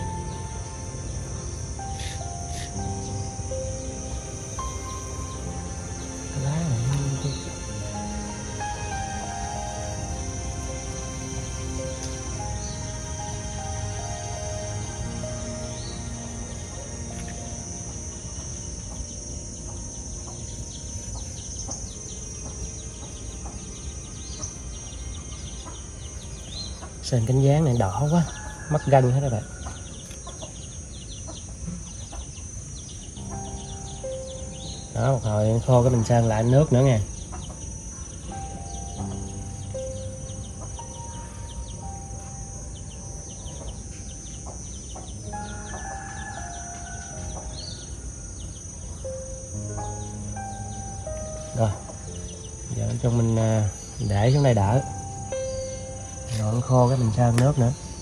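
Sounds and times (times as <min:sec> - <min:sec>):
bird chirps: 0:00.0 - 0:58.0
high-pitched insect drone: 0:00.0 - 0:58.0
slow melody of held notes: 0:00.0 - 0:58.0.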